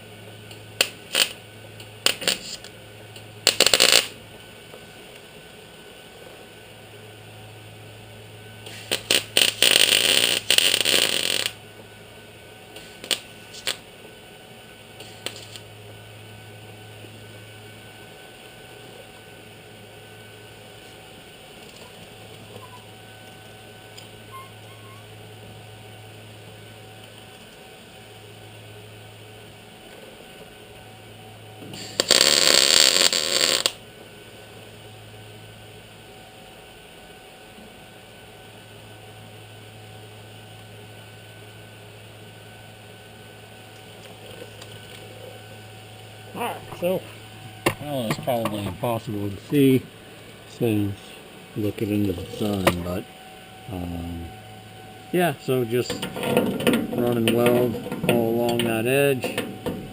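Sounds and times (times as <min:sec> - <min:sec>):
arc welding crackling: 0:00.0 - 0:06.5, 0:08.6 - 0:35.8, 0:40.0 - 0:59.9
low steady hum: 0:00.0 - 0:59.9.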